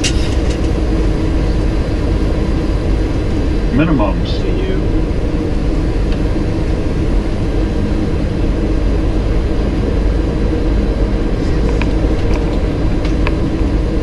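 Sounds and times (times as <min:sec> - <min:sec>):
airflow and engines in cockpit: 0:00.0 - 0:14.0
heavy low rumble: 0:00.0 - 0:14.0.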